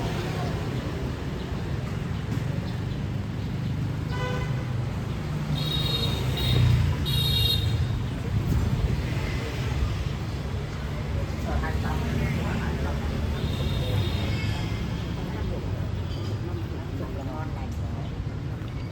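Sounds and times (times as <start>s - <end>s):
traffic engines running: 0.0s - 18.9s.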